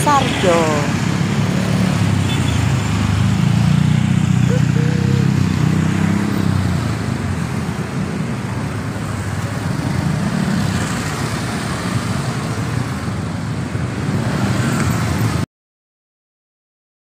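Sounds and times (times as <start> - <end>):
cars passing: 0.0 - 15.4
motor scooters passing: 0.0 - 15.4.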